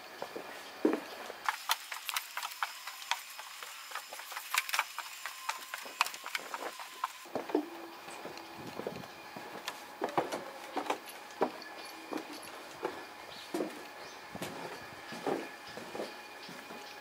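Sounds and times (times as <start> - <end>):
footsteps on wooden stairs: 0.2 - 17.0.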